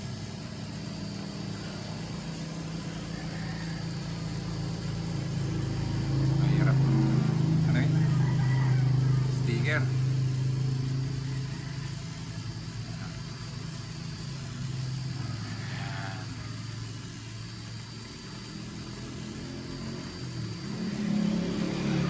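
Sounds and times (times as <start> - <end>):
engine idling hum: 0.0 - 22.0.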